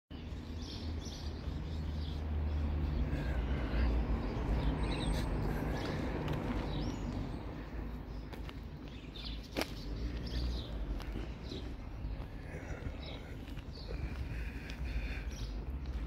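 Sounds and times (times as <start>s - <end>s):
birds chirping faintly: 0.1s - 16.0s
passing vehicle engine rumble: 0.8s - 16.0s.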